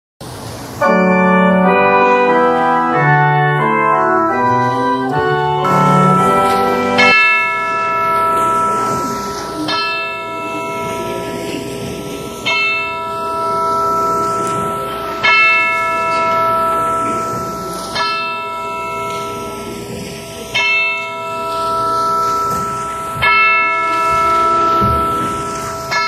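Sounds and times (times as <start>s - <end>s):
church bell tolling: 0.5s - 26.0s.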